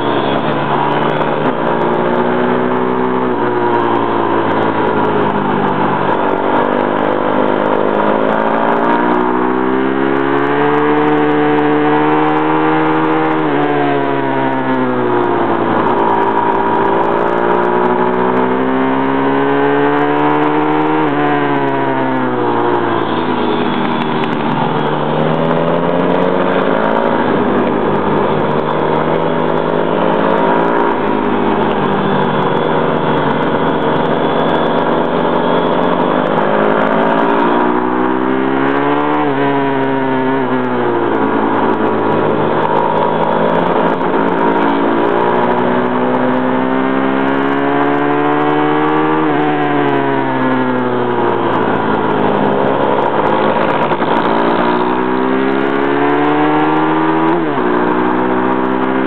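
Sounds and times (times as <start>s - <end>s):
motorbike engine revving: 0.0s - 59.0s
wind noise: 0.0s - 59.0s.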